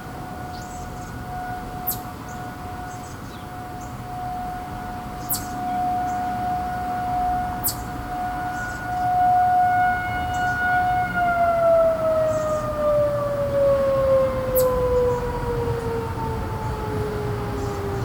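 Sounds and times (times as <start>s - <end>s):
distant warning siren: 0.0s - 18.0s.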